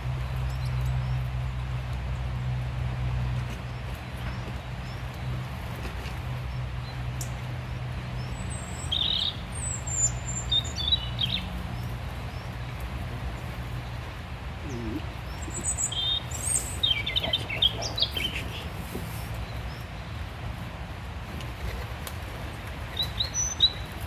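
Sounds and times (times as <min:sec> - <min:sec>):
songbirds chirping: 0:00.0 - 0:20.6.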